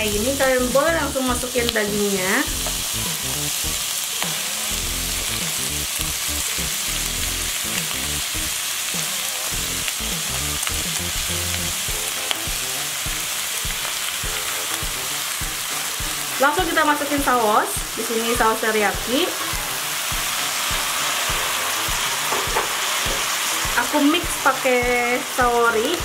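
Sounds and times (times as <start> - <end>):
vegetables sizzling in a wok: 0.0 - 26.0.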